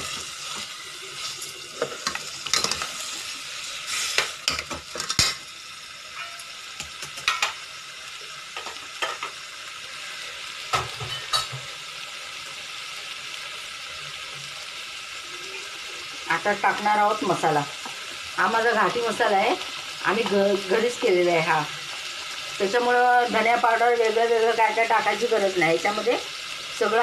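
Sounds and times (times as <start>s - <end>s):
curry sizzling in oil: 0.0s - 27.0s.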